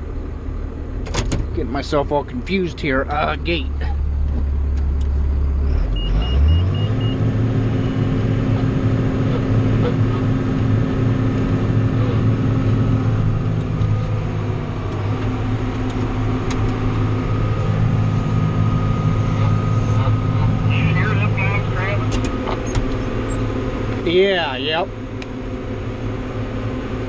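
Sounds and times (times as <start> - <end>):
tractor diesel engine: 0.0 - 27.0.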